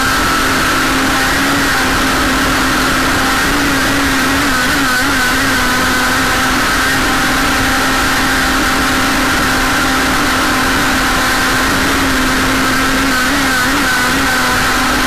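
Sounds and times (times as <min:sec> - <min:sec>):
model boat motor running: 0:00.0 - 0:15.0
wind: 0:00.0 - 0:15.0.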